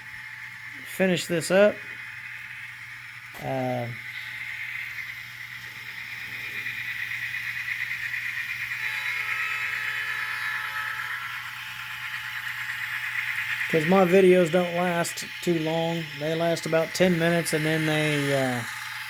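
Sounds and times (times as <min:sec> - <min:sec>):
steady low hum: 0:00.0 - 0:19.0
tinny model locomotive engine sound: 0:00.0 - 0:19.0.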